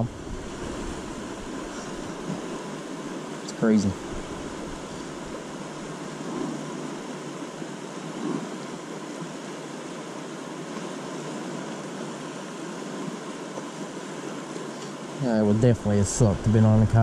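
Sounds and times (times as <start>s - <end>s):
river rushing through rapids: 0.0s - 17.0s.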